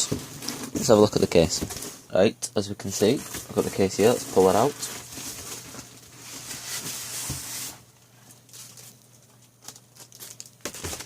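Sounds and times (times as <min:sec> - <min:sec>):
cardboard packaging rustling: 0:00.0 - 0:02.0, 0:02.9 - 0:11.0.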